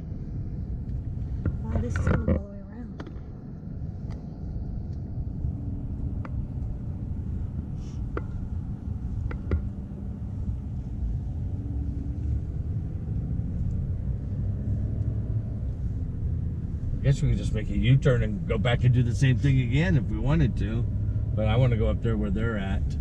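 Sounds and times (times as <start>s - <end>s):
car engine rumble: 0.0s - 23.0s
tyres on road: 0.0s - 23.0s.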